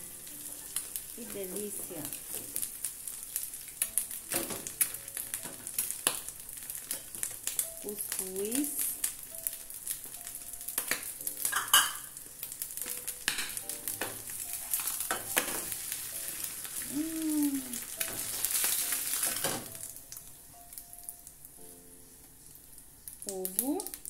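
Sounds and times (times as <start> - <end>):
egg sizzling in oil: 0.0 - 24.0.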